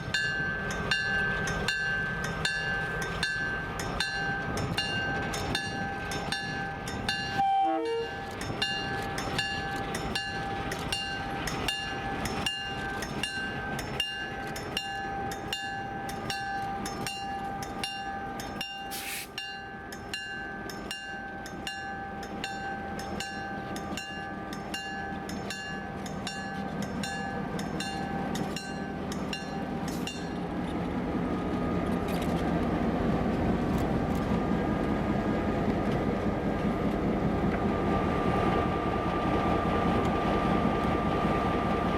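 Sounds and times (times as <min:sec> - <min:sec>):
diesel locomotive engine running: 0:00.0 - 0:41.9.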